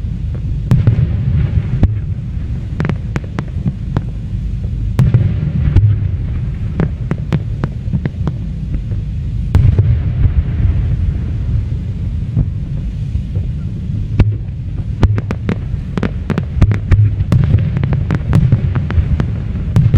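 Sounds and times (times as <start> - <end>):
firework booms: 0.0 - 19.9
sharp firework cracks: 0.4 - 11.6, 12.3 - 19.9.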